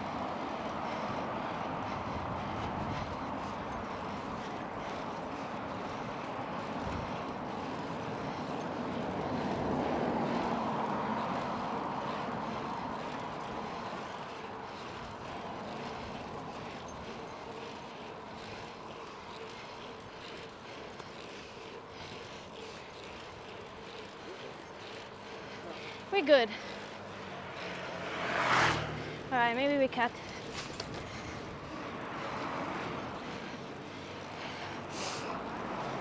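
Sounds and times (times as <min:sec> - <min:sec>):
bicycle tyres rushing: 0:00.0 - 0:36.0
wind: 0:00.0 - 0:36.0.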